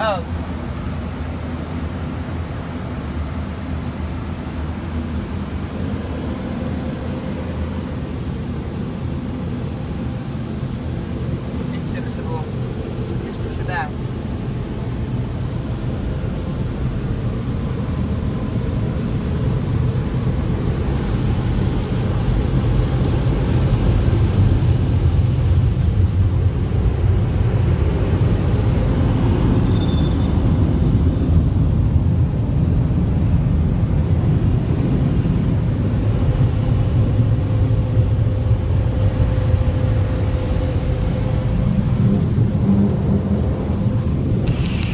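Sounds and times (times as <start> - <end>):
low rumble inside car: 0.0 - 44.9.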